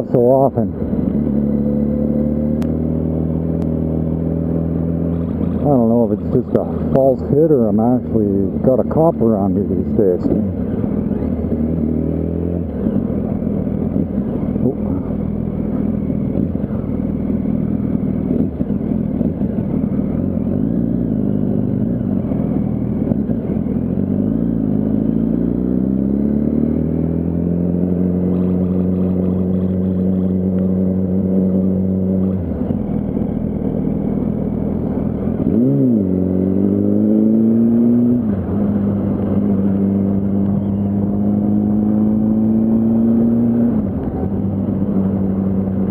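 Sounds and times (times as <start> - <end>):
motorcycle engine revving: 0.0 - 45.9
road noise: 0.0 - 45.9.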